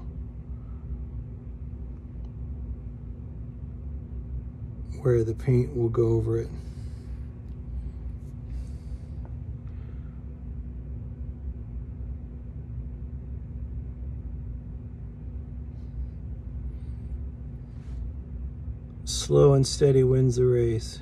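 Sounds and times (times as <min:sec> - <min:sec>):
faint constant hum: 0:00.0 - 0:21.0
low room rumble: 0:00.0 - 0:21.0.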